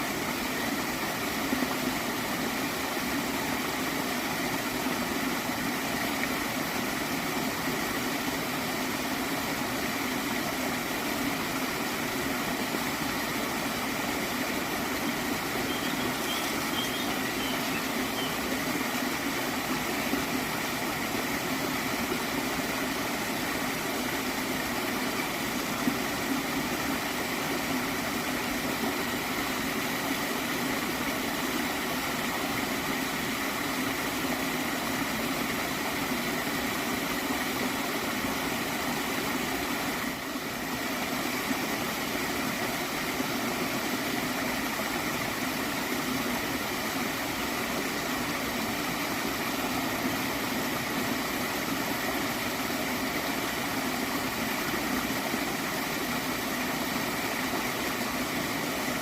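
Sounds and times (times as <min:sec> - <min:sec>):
stream of water gurgling: 0:00.0 - 0:59.0.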